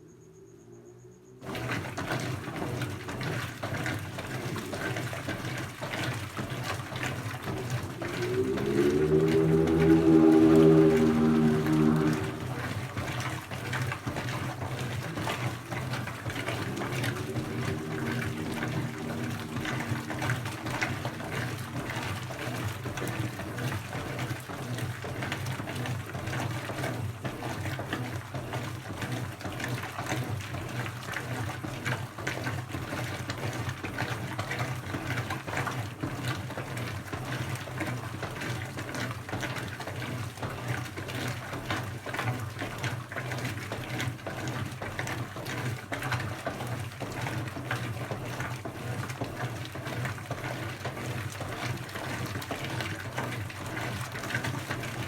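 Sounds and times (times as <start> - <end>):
washing machine low hum: 0.0 - 55.0
water rushing and splashing: 1.4 - 55.0.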